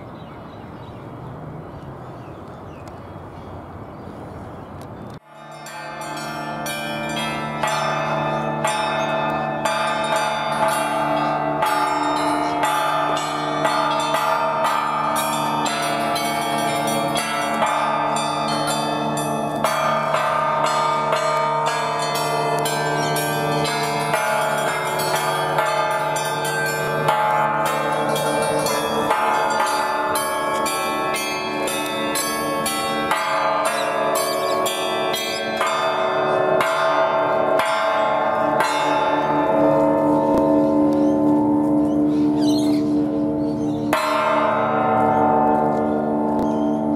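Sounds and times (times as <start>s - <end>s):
bells struck playing a tune: 5.2s - 46.9s.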